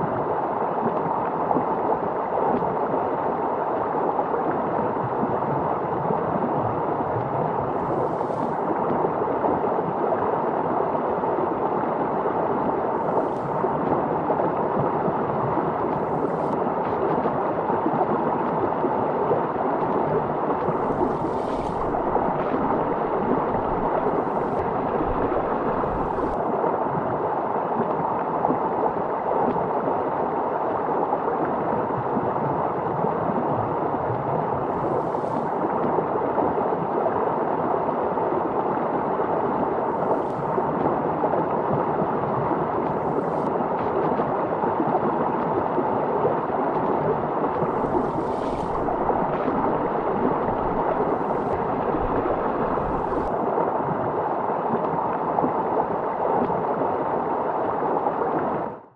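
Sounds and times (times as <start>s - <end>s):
stream gurgling over stones: 0.0s - 58.8s.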